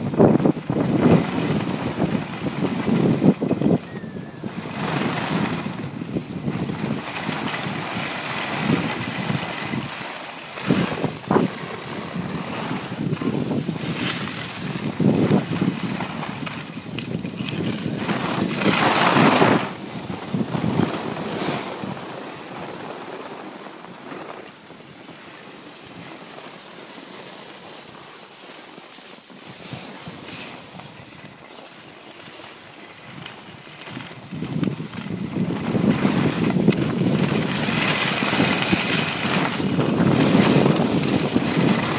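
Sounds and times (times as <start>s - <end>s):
wind on microphone: 0.0s - 27.2s, 29.2s - 41.9s
skis scraping over snow: 0.0s - 41.9s.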